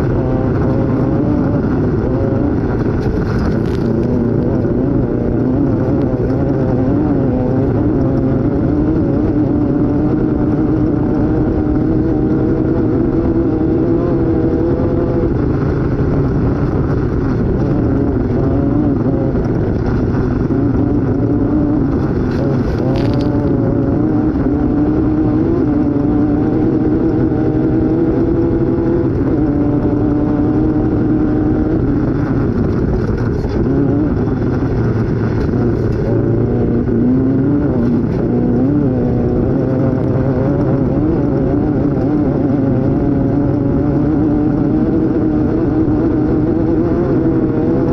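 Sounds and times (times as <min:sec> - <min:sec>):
heavy drivetrain rumble: 0:00.0 - 0:47.9
vehicle engine running hard: 0:00.0 - 0:47.9.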